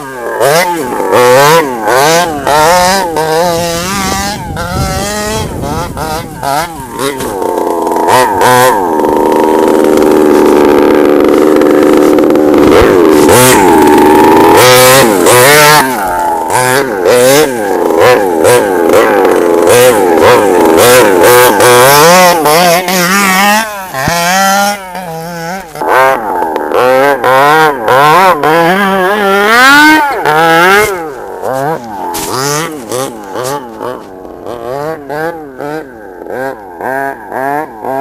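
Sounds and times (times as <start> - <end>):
small two-stroke engine revving: 0.0 - 38.0.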